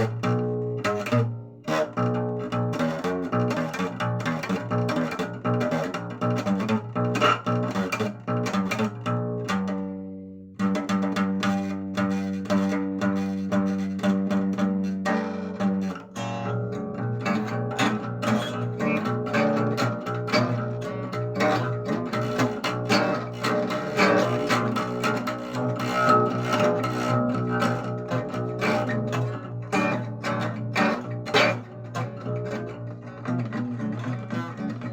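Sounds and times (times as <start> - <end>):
plucked string instrumental music: 0.0 - 34.9.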